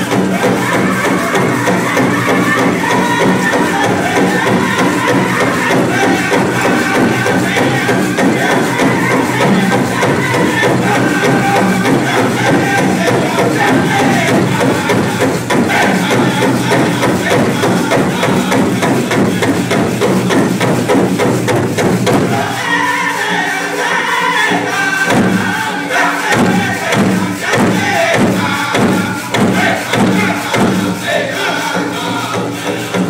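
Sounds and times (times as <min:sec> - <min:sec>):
large drum beating steady rhythm: 0:00.0 - 0:33.0
singers chanting together: 0:00.0 - 0:33.0.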